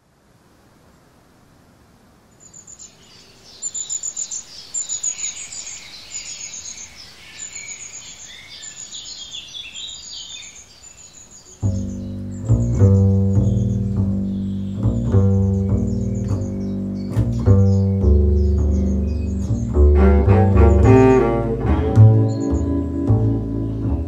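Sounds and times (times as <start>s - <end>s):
faint steady hiss: 0.0s - 24.0s
small birds chirping: 2.3s - 24.0s.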